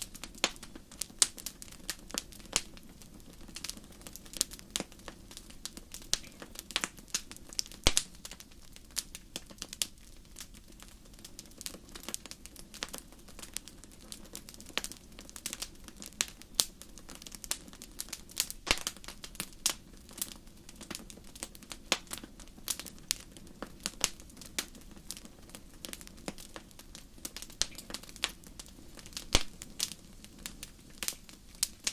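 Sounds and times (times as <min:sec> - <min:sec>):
low rumble of flames: 0:00.0 - 0:31.9
wood fire crackling and popping: 0:00.0 - 0:31.9.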